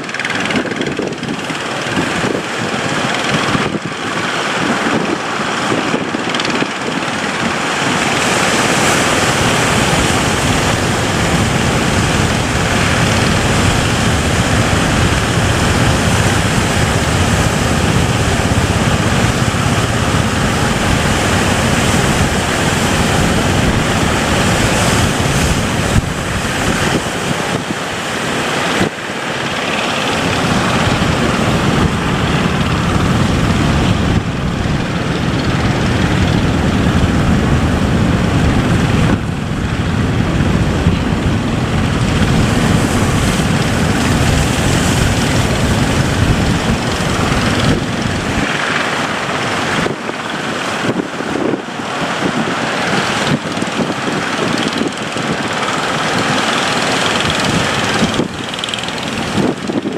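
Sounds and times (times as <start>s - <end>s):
boat engine running: 0.0s - 59.9s
waves against hull: 0.0s - 59.9s
wind buffeting microphone: 0.0s - 59.9s.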